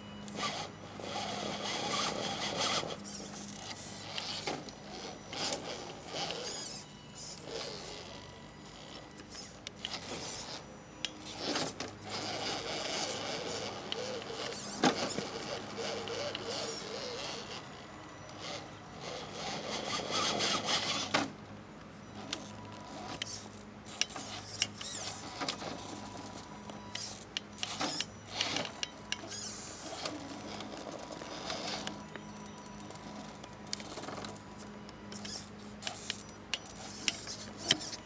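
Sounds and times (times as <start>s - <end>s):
electric motor and gears whining: 0.0s - 38.0s.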